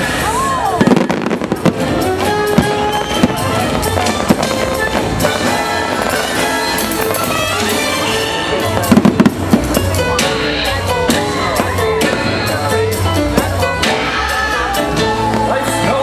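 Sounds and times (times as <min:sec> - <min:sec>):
fireworks bangs: 0:00.0 - 0:14.2
music: 0:00.0 - 0:16.0.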